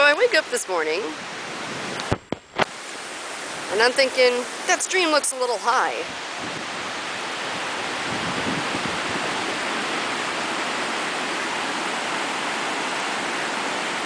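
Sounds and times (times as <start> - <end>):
stream rushing: 0.0 - 14.0.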